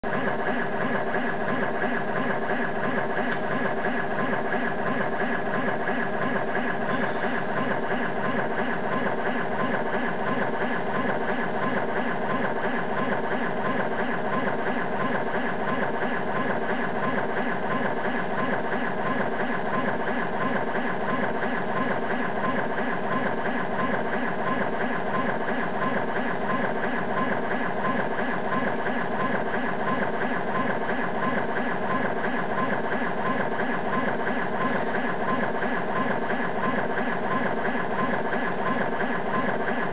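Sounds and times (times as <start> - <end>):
stepper motor machine hum: 0.0 - 39.9.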